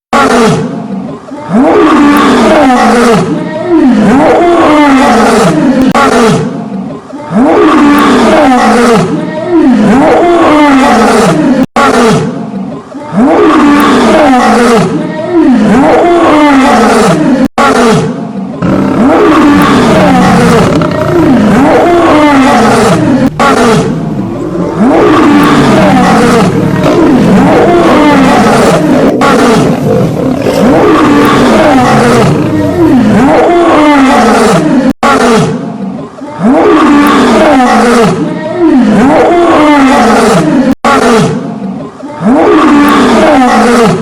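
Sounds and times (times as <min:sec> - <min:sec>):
lion roaring: 0:01.5 - 0:06.6, 0:07.3 - 0:12.4, 0:13.2 - 0:35.6, 0:36.4 - 0:41.4, 0:42.2 - 0:44.0.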